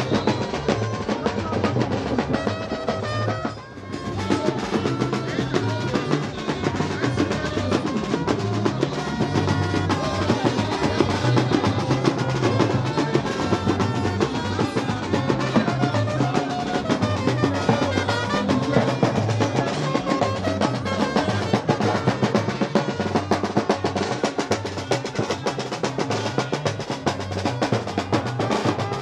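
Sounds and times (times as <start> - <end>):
bass and snare drums: 0.0 - 29.0
drum and brass band playing: 0.0 - 29.0
held horn notes: 0.0 - 29.0.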